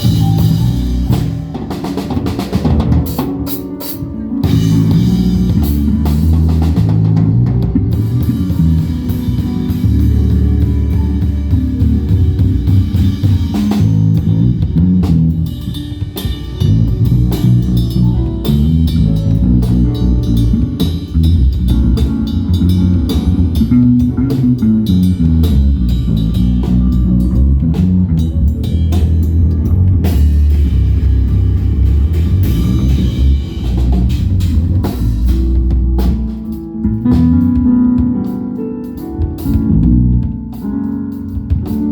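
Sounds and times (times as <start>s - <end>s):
instrumental rock band music: 0.0s - 41.9s.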